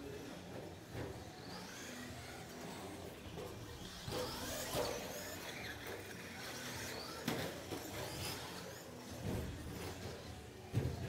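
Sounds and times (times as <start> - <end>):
electric rc truck motors whining: 0.0 - 11.0.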